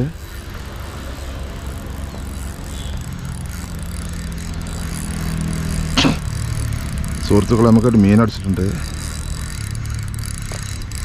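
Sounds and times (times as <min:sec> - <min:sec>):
fishing reel ratcheting: 0:00.0 - 0:11.0.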